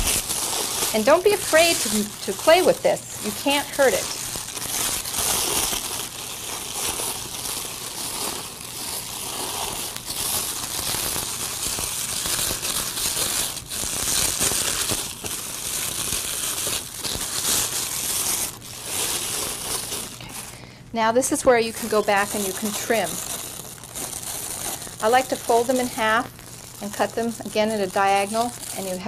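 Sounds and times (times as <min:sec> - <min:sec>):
metallic ribbon crinkling: 0:00.0 - 0:20.6, 0:21.4 - 0:29.0.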